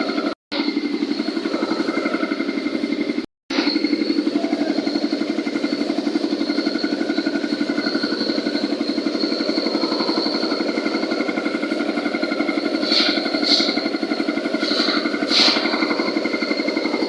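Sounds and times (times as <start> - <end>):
concrete mixer running: 0.0 - 17.0.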